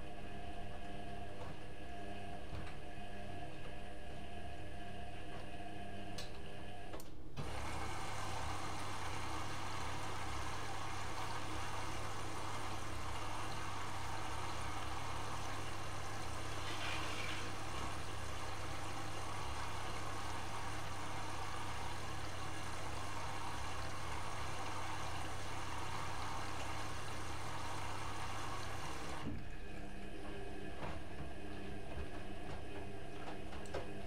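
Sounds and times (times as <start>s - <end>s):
washing machine motor whining: 0.0s - 34.0s.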